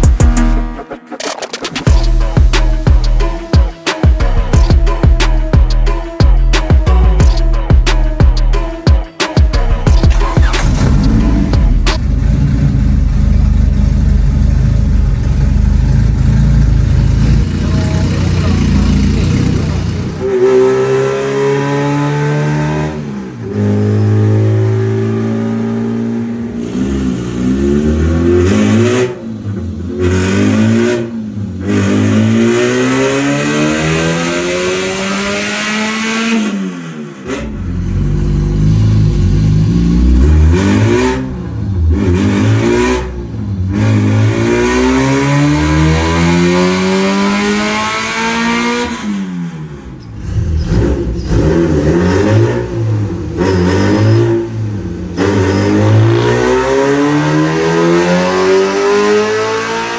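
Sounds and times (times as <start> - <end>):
car engine revving hard: 9.6 - 59.9.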